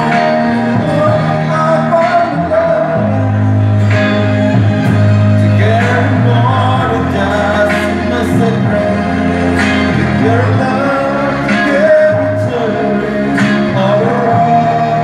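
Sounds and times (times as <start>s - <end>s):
man singing: 0.0s - 4.4s, 5.3s - 15.0s.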